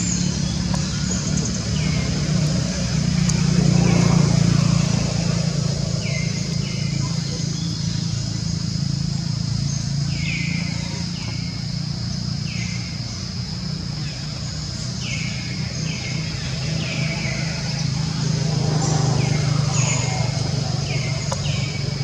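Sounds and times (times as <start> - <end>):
constant high drone: 0.0 - 22.0.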